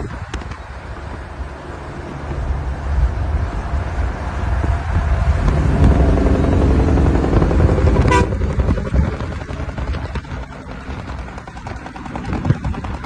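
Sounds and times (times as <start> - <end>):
low road rumble: 0.0 - 13.0.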